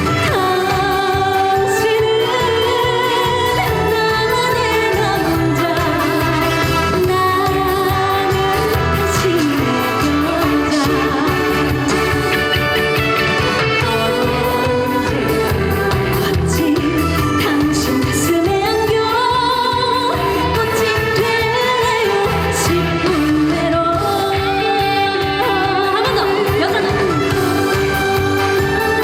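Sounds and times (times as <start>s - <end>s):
backing track with steady beat: 0.0s - 29.0s
woman singing: 0.0s - 29.0s.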